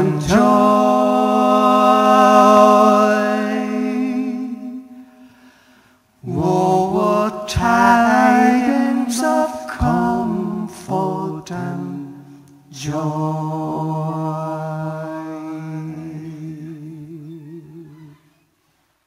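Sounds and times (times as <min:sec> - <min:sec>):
men singing: 0:00.0 - 0:05.0, 0:06.2 - 0:18.1.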